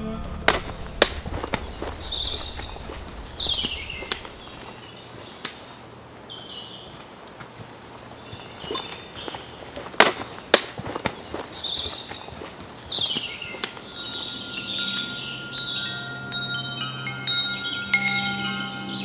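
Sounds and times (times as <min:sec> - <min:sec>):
wild birds calling and singing: 0:01.0 - 0:07.0, 0:07.7 - 0:19.0.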